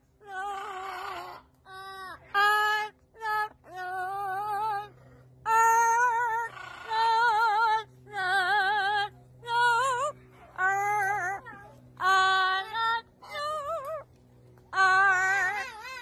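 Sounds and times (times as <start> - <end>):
parrot singing in human voice: 0.2 - 4.9, 5.5 - 14.0, 14.8 - 16.0.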